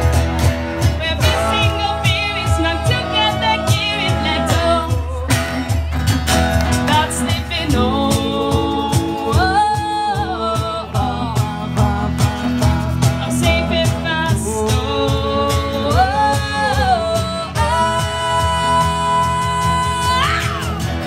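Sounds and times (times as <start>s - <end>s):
electric and acoustic guitars: 0.0s - 21.0s
steady drum beat: 0.0s - 21.0s
woman singing: 0.8s - 5.9s, 6.7s - 21.0s.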